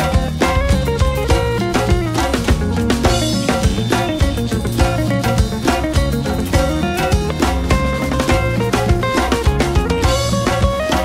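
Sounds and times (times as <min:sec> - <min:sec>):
djembe drumming: 0:00.0 - 0:11.0
live band music: 0:00.0 - 0:11.0.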